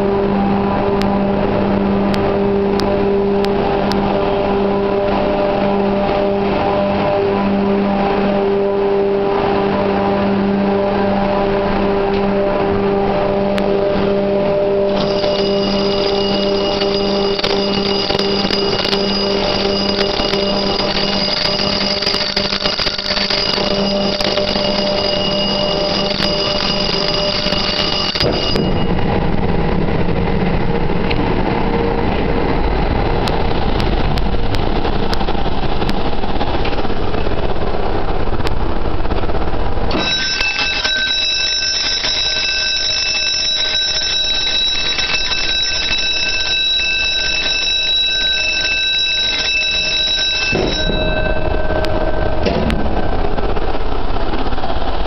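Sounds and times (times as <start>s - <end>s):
steady high tones: 0.0s - 36.6s, 39.7s - 55.0s
engine room machinery noise: 0.0s - 55.0s.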